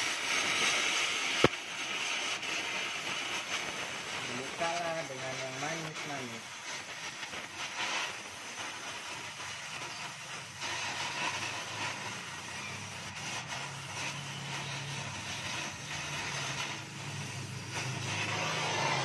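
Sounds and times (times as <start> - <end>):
gas welding torch hissing: 0.0 - 19.0.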